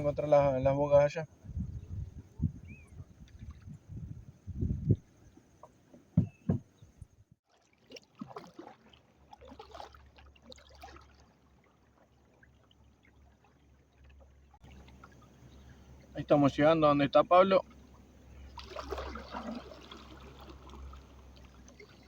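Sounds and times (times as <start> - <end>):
water splashing along kayak hull: 1.3 - 22.0.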